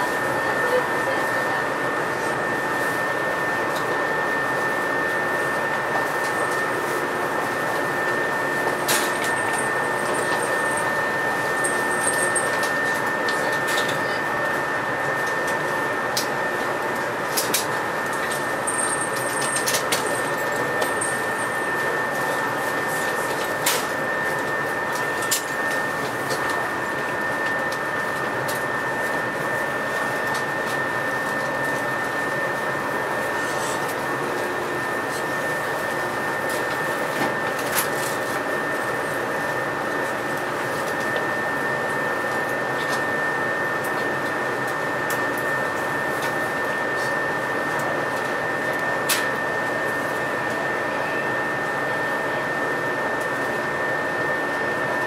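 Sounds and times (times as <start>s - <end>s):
train running rumble and hiss: 0.0s - 55.0s.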